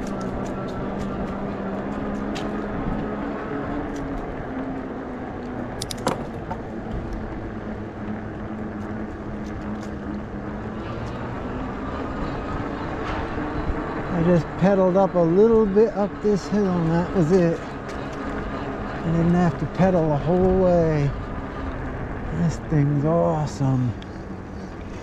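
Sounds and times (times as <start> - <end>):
wind and tyre noise: 0.0 - 25.0.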